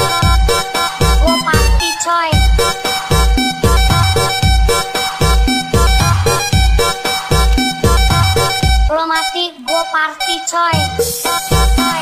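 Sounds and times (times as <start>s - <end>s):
thumping bass beat: 0.0s - 8.9s, 10.7s - 12.0s.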